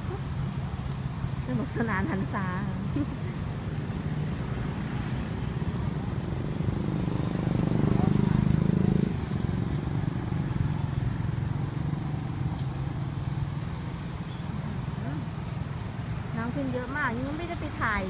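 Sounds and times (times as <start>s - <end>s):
vehicle engine running: 0.0s - 17.9s.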